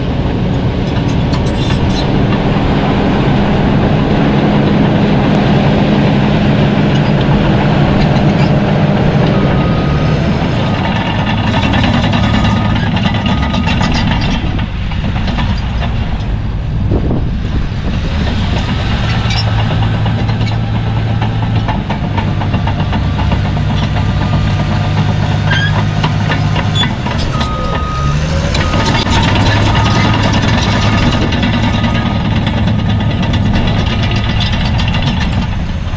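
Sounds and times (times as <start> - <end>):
diesel engine under load: 0.0 - 35.9
track clatter: 0.0 - 35.9.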